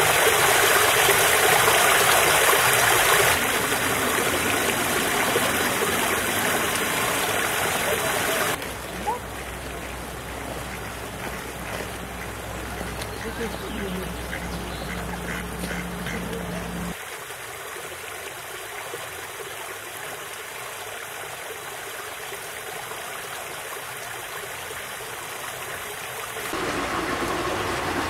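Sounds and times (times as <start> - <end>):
stream running water: 0.0 - 28.0.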